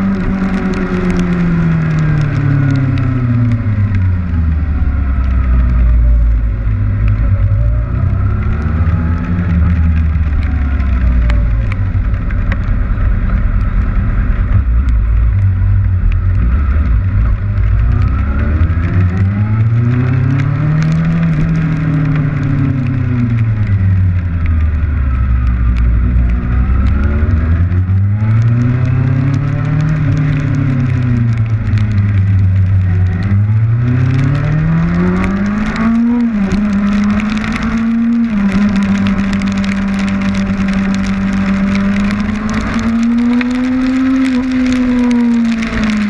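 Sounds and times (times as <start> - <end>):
motorcycle engine revving: 0.0 - 46.0
rain pattering on camera: 0.0 - 46.0.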